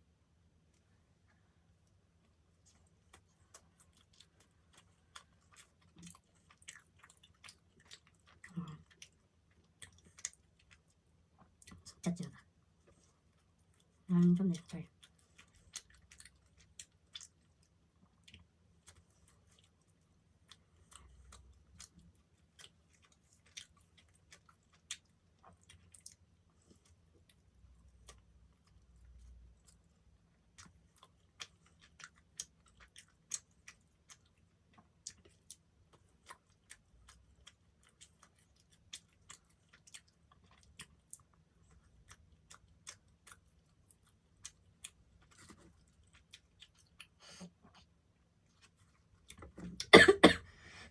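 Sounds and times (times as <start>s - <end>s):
chewing soft food: 0.4s - 49.9s.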